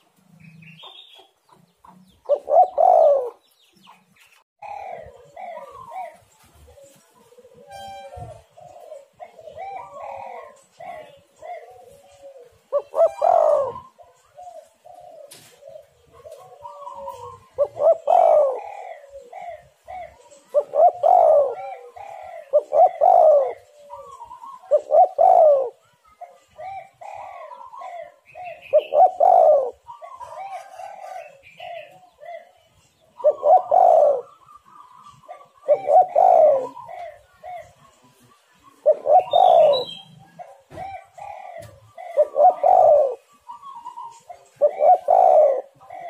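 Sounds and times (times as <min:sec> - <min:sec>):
doves cooing: 0:00.0 - 0:46.0.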